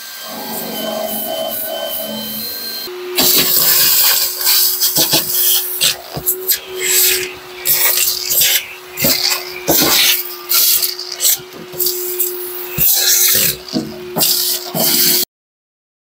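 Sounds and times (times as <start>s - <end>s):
shop vacuum motor hum: 0.0s - 14.5s.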